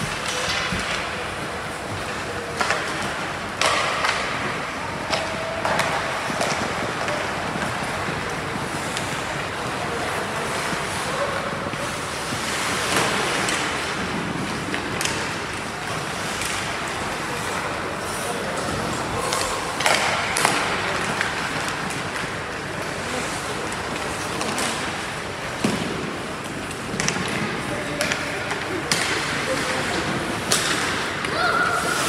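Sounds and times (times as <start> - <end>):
hockey sticks knocking puck: 0.0 - 11.1, 11.8 - 31.4
arena noise: 0.0 - 32.0
skates on ice: 0.0 - 32.0.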